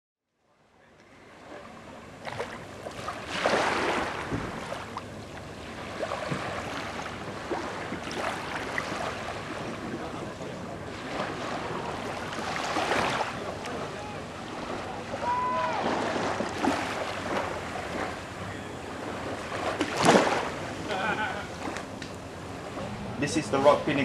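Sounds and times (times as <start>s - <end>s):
water lapping and splashing: 1.0s - 24.0s.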